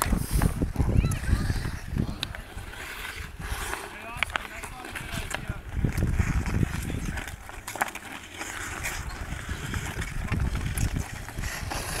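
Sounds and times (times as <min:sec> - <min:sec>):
ice skates scraping on ice: 0:00.0 - 0:12.0
hockey sticks and puck clacking: 0:01.2 - 0:12.0.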